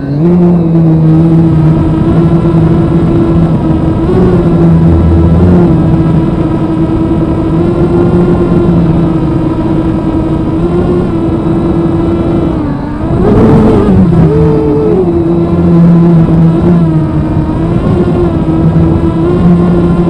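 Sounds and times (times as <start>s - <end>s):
drone motors buzzing: 0.0s - 20.0s
rush of air noise: 0.0s - 20.0s.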